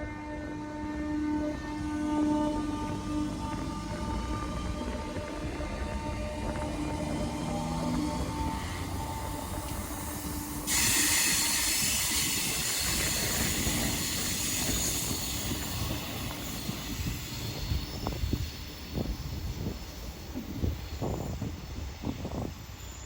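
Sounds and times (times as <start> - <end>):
wheels hissing on rail: 0.0 - 23.0.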